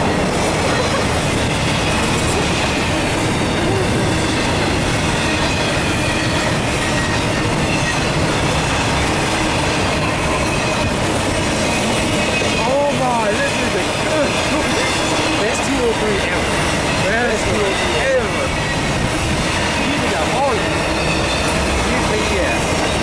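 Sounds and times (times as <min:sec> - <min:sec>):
freight train wheels rumbling on rails: 0:00.0 - 0:23.0
high wheel squeal: 0:00.0 - 0:23.0.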